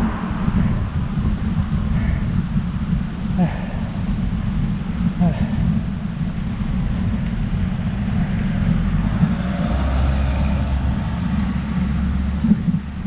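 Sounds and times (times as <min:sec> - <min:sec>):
road traffic noise: 0:00.0 - 0:13.0
wind rumbling on microphone: 0:00.0 - 0:13.0.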